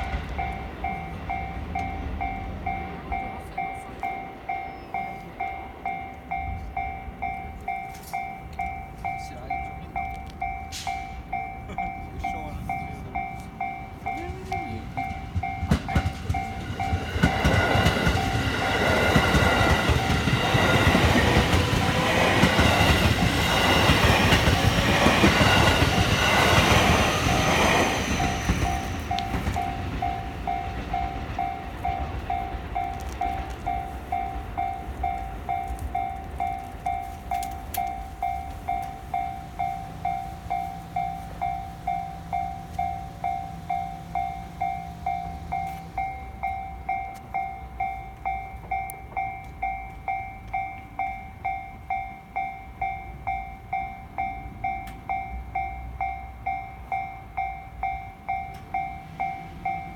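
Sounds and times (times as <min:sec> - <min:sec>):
level crossing warning bell: 0:00.0 - 0:59.9
train rumble: 0:00.0 - 0:59.9.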